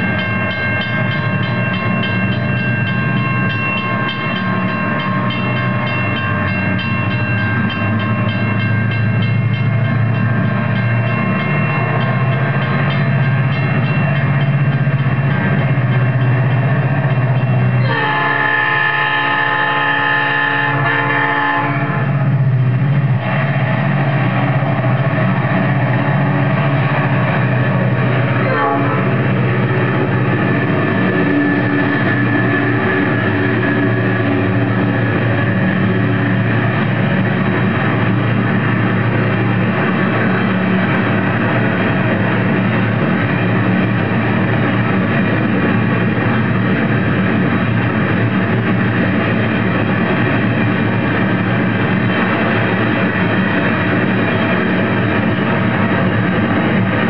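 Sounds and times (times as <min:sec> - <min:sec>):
diesel locomotives passing: 0:00.0 - 0:57.0.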